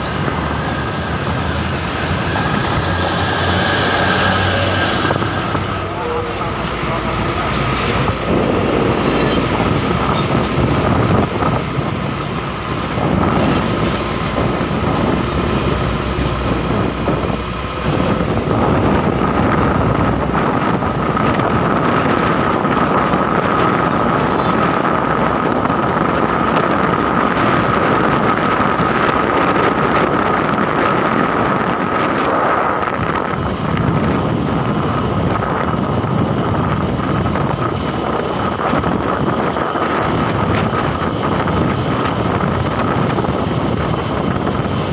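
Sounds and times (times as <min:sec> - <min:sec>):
road and wind noise: 0:00.0 - 0:44.9
truck engine running: 0:00.0 - 0:44.9.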